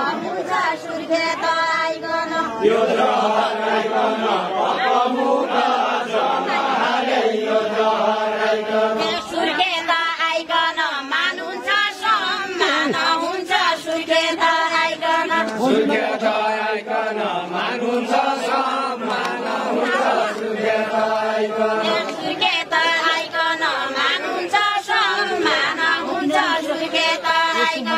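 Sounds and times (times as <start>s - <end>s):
group singing folk song: 0.0s - 27.9s.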